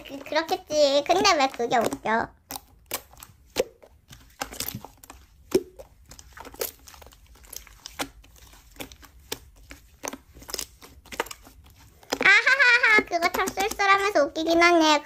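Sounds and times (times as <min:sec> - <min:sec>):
slime crackling and squelching: 0:00.0 - 0:15.0.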